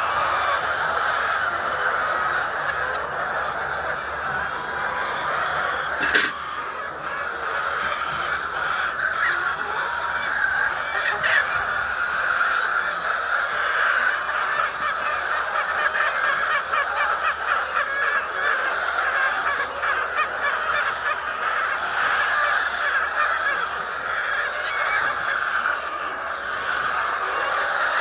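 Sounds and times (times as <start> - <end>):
hens clucking: 0.0 - 28.0.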